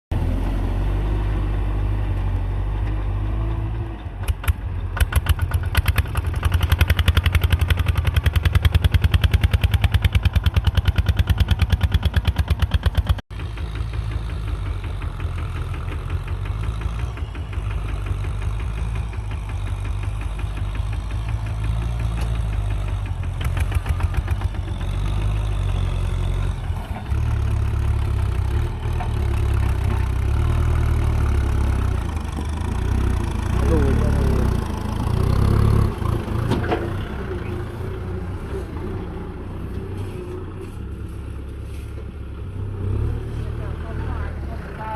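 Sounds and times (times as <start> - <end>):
diesel tractor engine clattering: 0.2 - 44.9.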